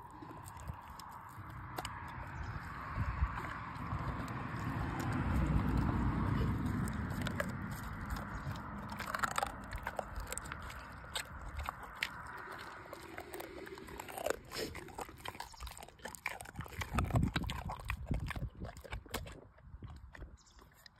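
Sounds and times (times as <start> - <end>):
dog chewing raw meat: 0.0 - 20.9.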